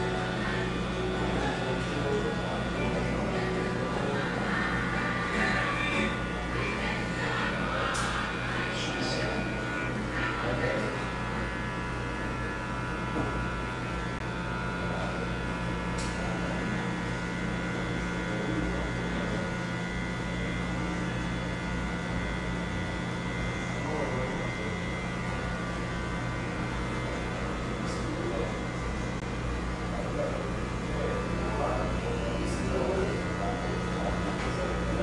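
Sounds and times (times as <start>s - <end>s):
electric hair clipper buzzing: 0.0s - 28.6s.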